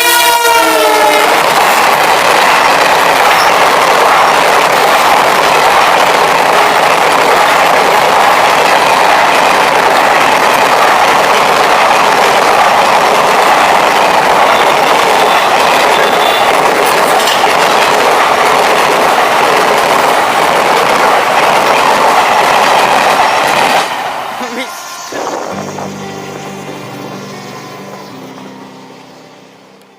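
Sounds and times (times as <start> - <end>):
train wheels rattling on rails: 0.0 - 25.9.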